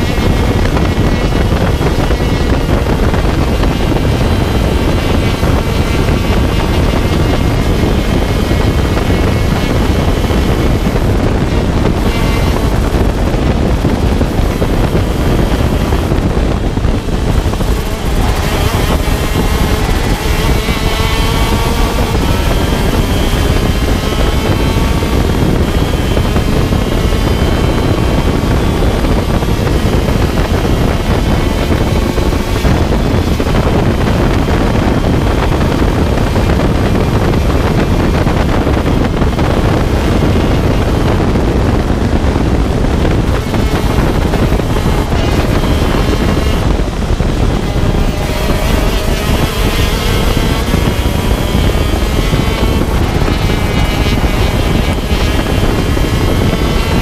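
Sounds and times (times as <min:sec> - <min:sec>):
kart engine revving: 0:00.0 - 0:57.0
wind buffeting microphone: 0:00.0 - 0:57.0.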